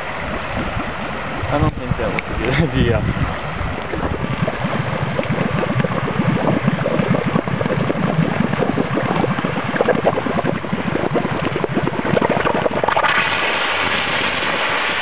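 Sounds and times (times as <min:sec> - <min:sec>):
rapid underwater bubbling and gurgling: 0:00.0 - 0:15.0.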